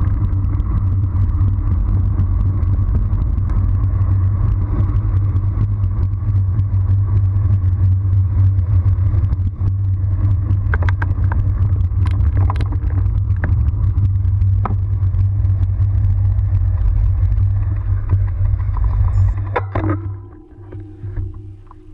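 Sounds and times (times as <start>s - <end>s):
bike tyres rolling: 0.0s - 21.9s
wind rumbling on microphone: 0.0s - 21.9s.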